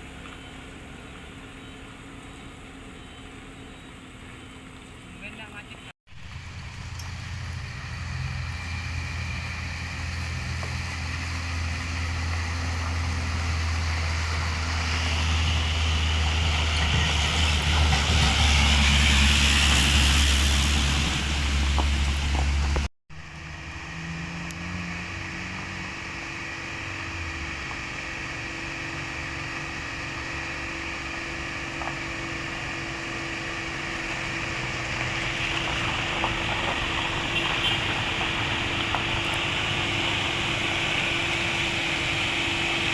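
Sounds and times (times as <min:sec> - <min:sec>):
diesel truck engine working hard: 0:00.0 - 0:42.9
steady engine drone: 0:00.0 - 0:42.9.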